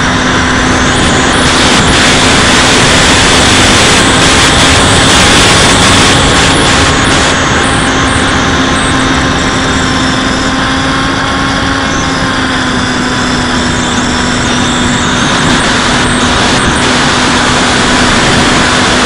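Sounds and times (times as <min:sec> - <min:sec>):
rush of air: 0:00.0 - 0:10.4, 0:13.5 - 0:19.0
electric motor and propeller drone: 0:00.0 - 0:19.0.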